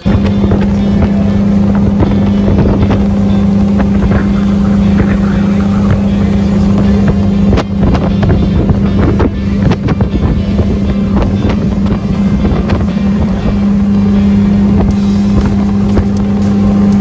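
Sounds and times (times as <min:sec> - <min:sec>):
boat engine drone: 0:00.0 - 0:17.0
rushing water: 0:00.0 - 0:17.0
wind buffeting microphone: 0:00.0 - 0:17.0.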